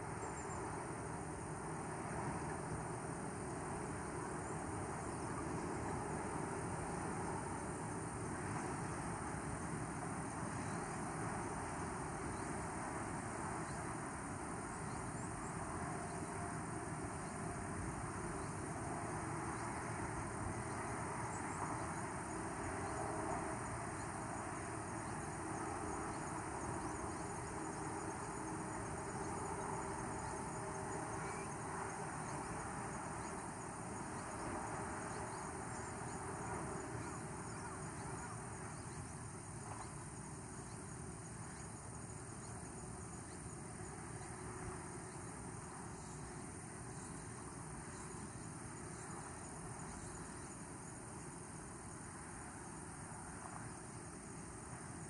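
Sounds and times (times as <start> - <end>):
background hiss: 0.0 - 55.0
insects trilling: 0.0 - 55.0.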